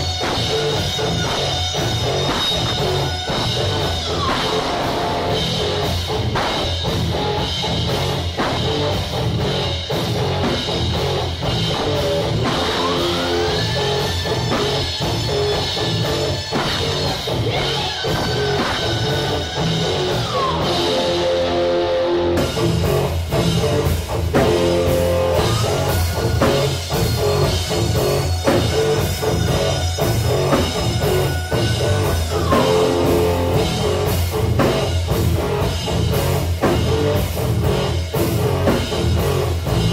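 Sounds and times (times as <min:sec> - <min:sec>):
rock band playing loud: 0:00.0 - 0:39.9.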